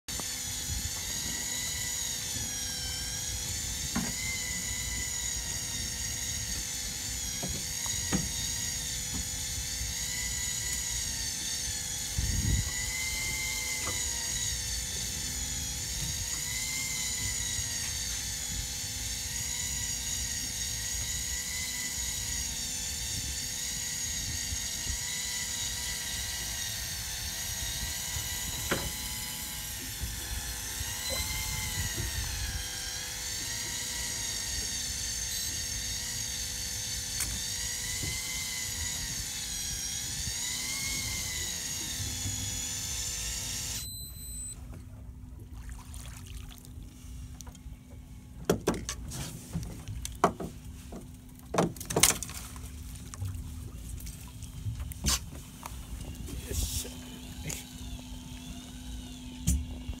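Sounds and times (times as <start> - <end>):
electric fishing reel whining: 0.1 - 44.8, 49.6 - 60.0.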